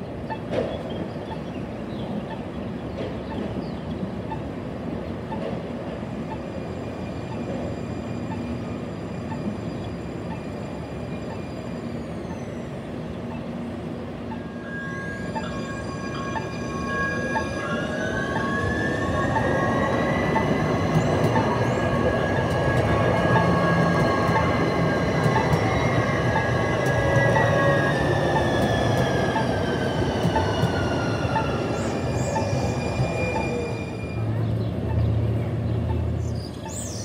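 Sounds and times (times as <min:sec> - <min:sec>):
train rumbling on track: 0:00.0 - 0:37.0.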